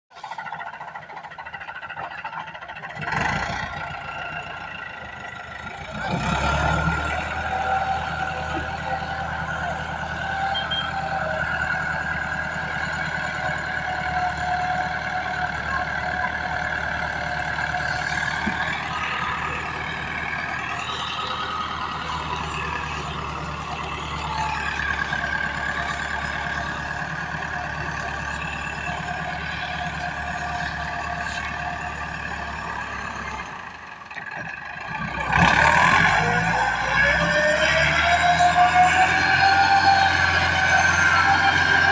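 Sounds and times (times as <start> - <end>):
tractor diesel engine running: 0.1 - 41.9.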